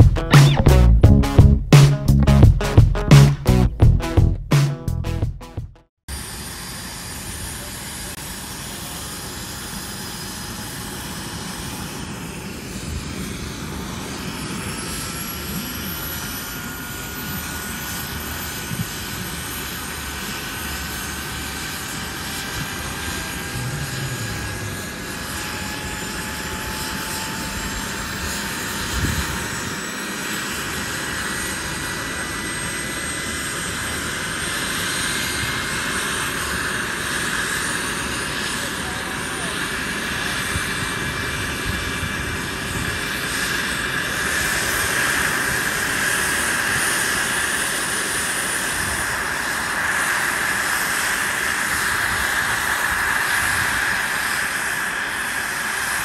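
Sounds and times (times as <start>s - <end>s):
rc helicopter motor and rotor whine: 6.1s - 56.0s.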